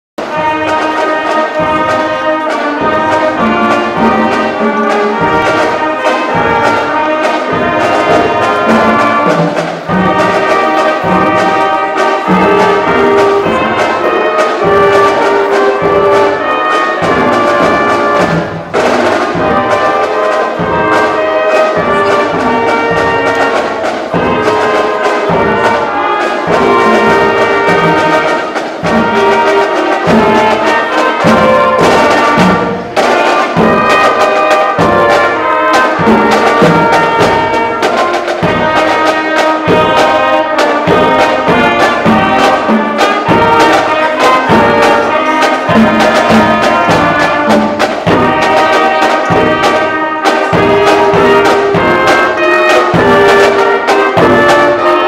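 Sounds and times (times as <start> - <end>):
brass band playing: 0.2 - 55.0.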